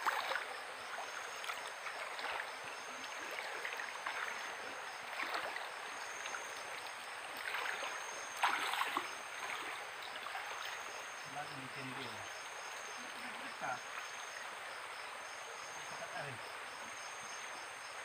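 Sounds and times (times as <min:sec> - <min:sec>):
feet wading through water: 0:00.0 - 0:14.8
stream flowing: 0:00.0 - 0:18.0.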